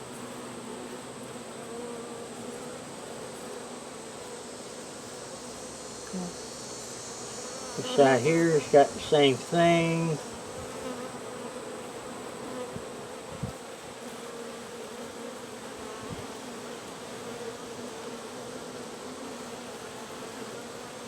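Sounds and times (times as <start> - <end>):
bees buzzing: 0.2 - 21.0.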